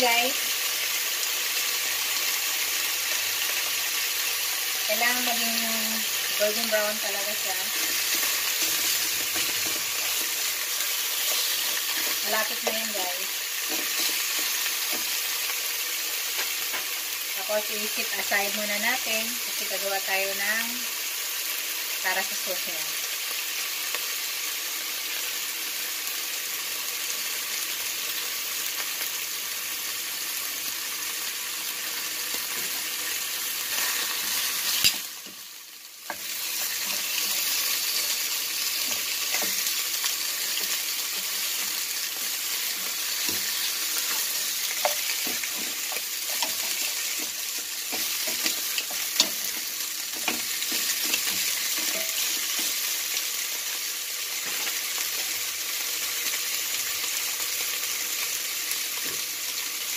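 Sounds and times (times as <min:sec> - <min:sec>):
meat sizzling in a frying pan: 0:00.0 - 0:59.9.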